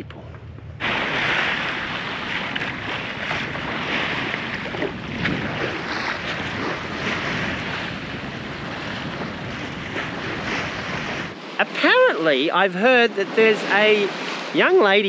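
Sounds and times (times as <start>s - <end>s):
wind buffeting microphone: 0.0s - 14.8s
water rushing along hull: 0.8s - 15.0s.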